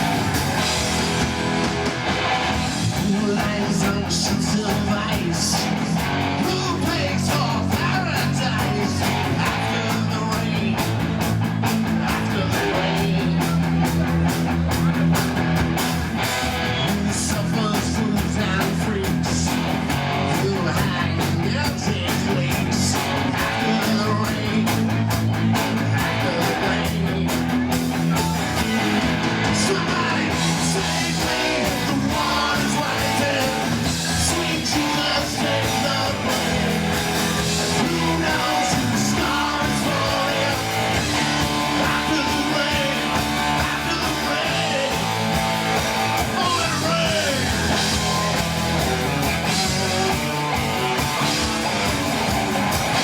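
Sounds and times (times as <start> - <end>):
guitar rock music: 0.0 - 53.0.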